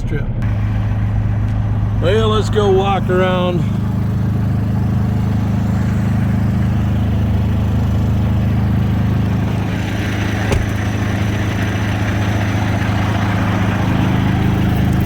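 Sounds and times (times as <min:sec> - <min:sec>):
diesel truck engine idling: 0:00.4 - 0:15.0.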